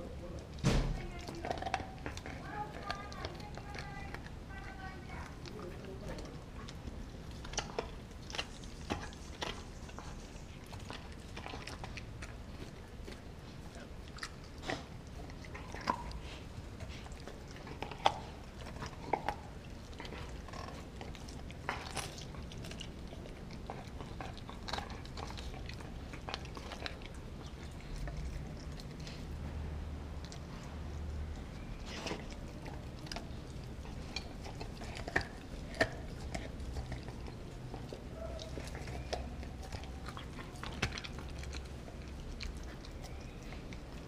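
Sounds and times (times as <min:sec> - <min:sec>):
dog crunching frozen bone: 0:00.0 - 0:44.0.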